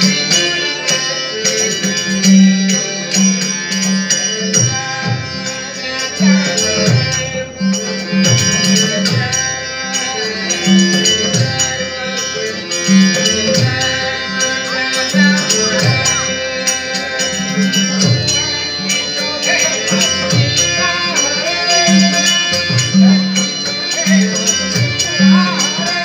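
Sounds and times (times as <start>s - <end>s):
harmonium holding notes: 0.0s - 26.0s
person singing: 4.7s - 26.0s.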